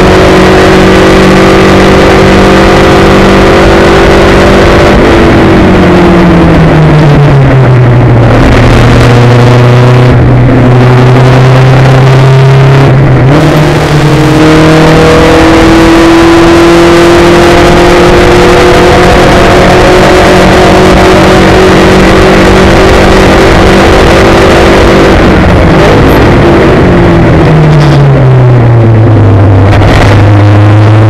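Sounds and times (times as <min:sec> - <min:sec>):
racing car engine at full throttle: 0:00.0 - 0:31.0
wind and road noise: 0:00.0 - 0:31.0.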